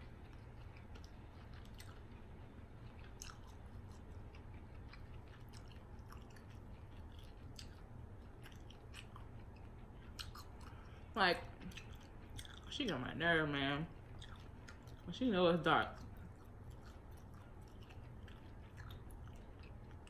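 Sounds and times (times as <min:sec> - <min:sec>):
low steady hum: 0:00.0 - 0:20.0
person chewing quietly: 0:00.0 - 0:20.0.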